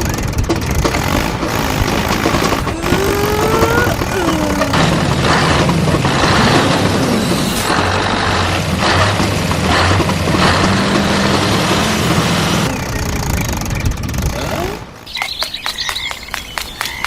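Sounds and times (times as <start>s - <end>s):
model tractor engine running: 0.0s - 15.0s
dense rushing background noise: 0.0s - 17.0s.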